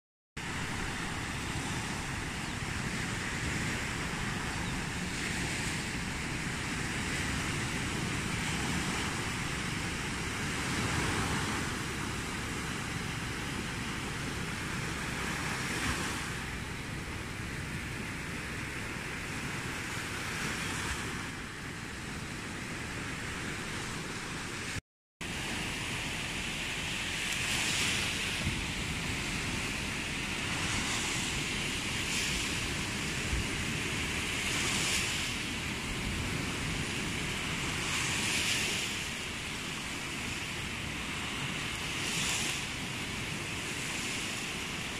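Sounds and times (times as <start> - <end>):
waves washing onto beach: 0.4 - 44.9
wind rumble on microphone: 0.4 - 44.9.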